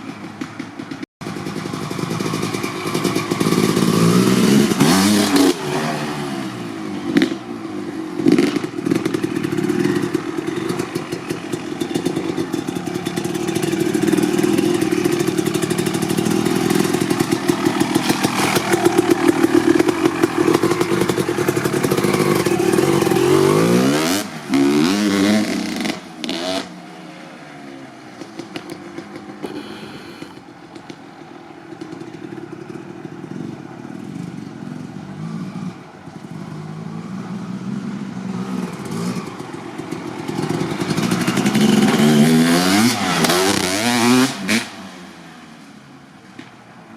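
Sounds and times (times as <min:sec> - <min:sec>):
two-stroke motorcycle engine revving: 0:00.0 - 0:26.8, 0:31.8 - 0:45.2.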